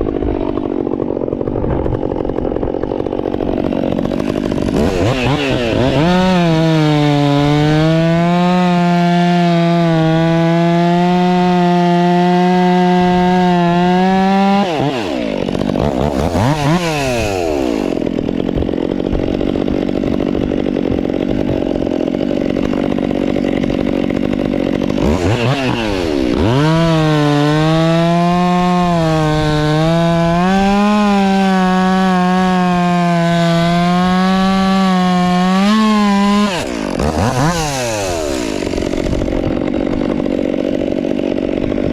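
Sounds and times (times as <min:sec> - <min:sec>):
chainsaw running at full throttle: 0:00.0 - 0:41.9.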